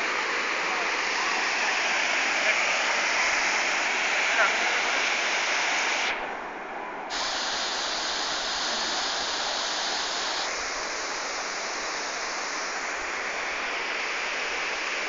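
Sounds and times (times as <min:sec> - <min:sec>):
waterfall rushing: 0:00.0 - 0:06.4, 0:07.1 - 0:15.0.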